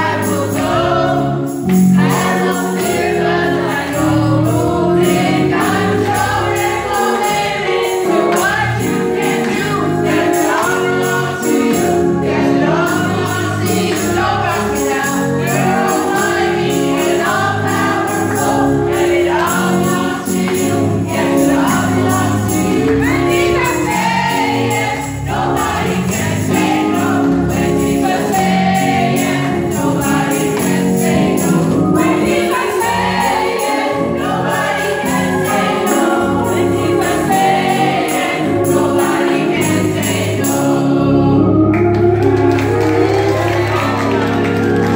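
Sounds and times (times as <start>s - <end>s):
jingling percussion: 0.0s - 41.0s
children's choir singing: 0.0s - 44.9s.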